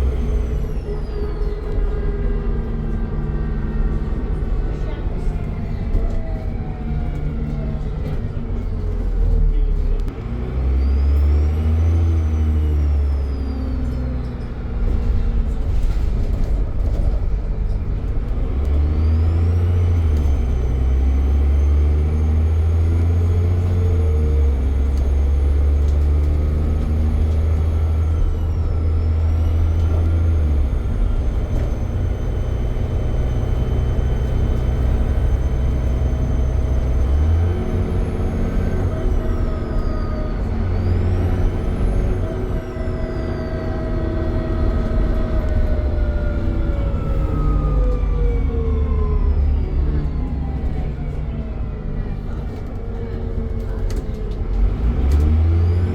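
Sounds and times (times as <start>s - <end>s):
bus engine under load: 0.0s - 55.9s.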